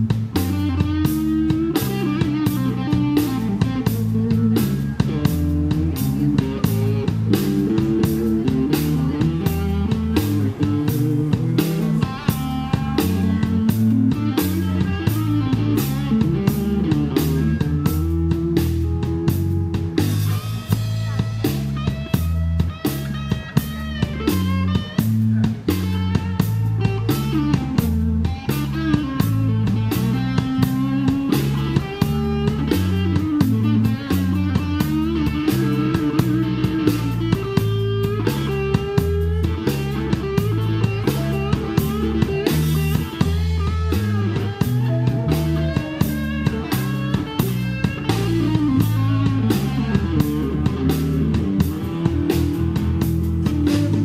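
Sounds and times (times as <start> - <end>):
bass line: 0.0 - 54.0
drum kit beat: 0.0 - 54.0
electric guitars: 0.0 - 54.0.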